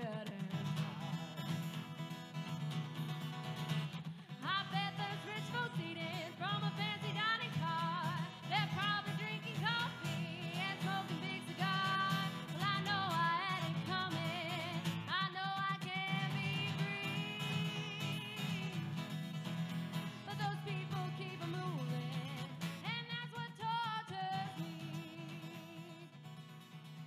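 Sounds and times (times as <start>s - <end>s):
country music with guitar: 0.0s - 27.0s.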